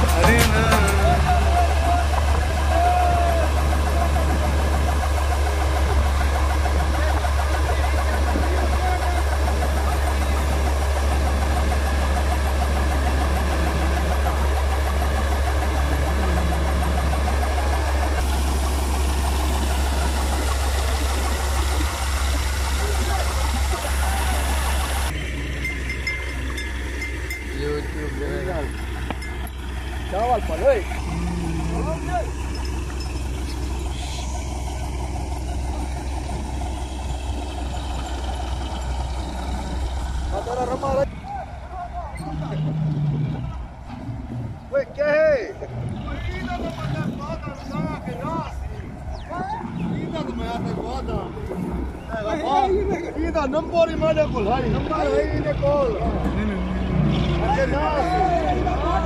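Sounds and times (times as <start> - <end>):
low engine drone: 0.0 - 59.0
machinery rattle: 0.0 - 59.0.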